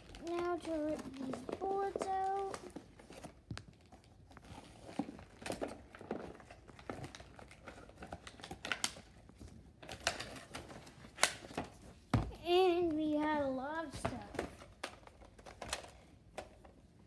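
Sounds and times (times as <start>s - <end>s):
packaging crinkling and rustling: 0.0s - 12.1s, 12.8s - 16.8s.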